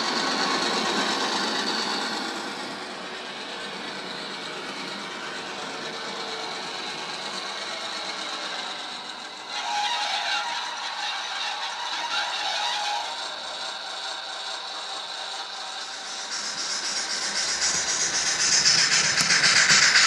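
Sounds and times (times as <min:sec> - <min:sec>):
diesel railcar sound from small speaker: 0:00.0 - 0:20.0
model train motor whirring and rattling: 0:00.0 - 0:20.0
thin wavering squeal: 0:00.0 - 0:20.0.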